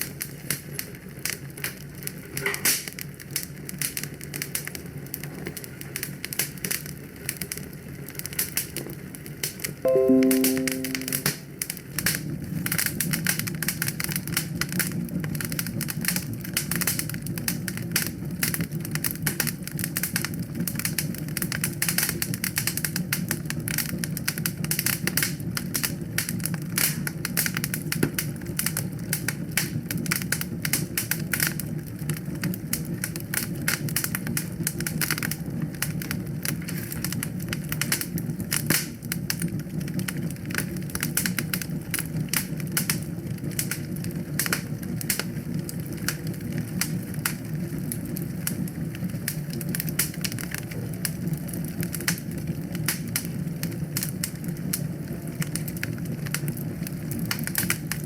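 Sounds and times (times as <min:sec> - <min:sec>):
wood fire crackling: 0:00.0 - 0:10.9, 0:12.7 - 0:58.0.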